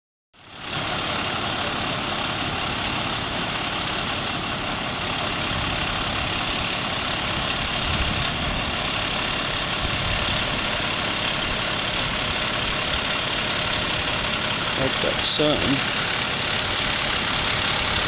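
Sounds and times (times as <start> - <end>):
engine idling: 0.4 - 18.0.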